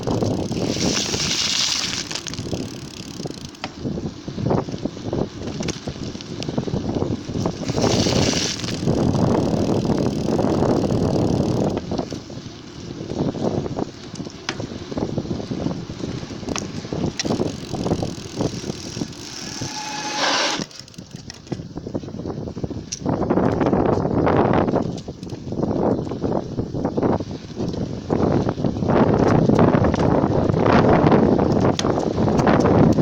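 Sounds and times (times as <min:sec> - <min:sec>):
bicycle tyre rolling rumble: 0:00.0 - 0:33.0
wind hiss: 0:00.0 - 0:33.0.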